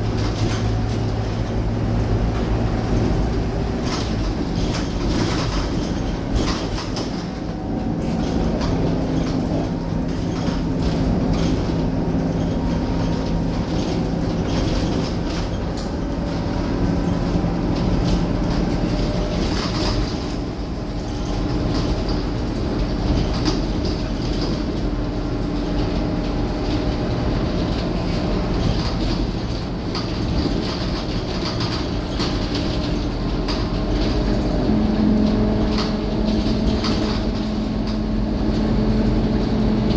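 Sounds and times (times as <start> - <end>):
bus body rattles and clicks: 0.0 - 39.9
bus diesel engine drone: 0.0 - 39.9.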